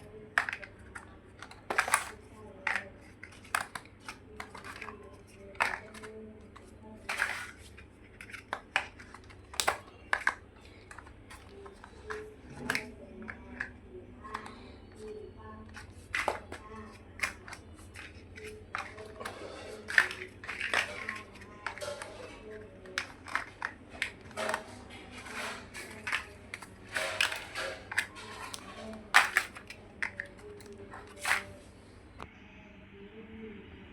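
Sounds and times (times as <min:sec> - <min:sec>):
plastic blocks clicking together: 0:00.0 - 0:15.1, 0:15.7 - 0:31.5.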